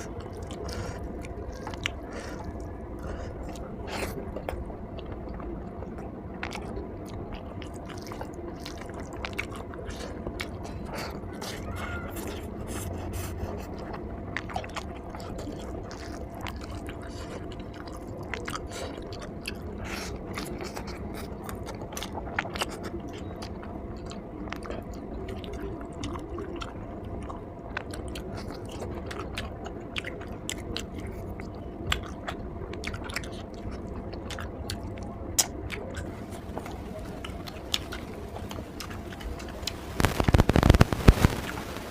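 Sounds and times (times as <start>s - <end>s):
chewing with wet clicks: 0.0s - 40.5s
faint steady hum: 0.0s - 41.9s.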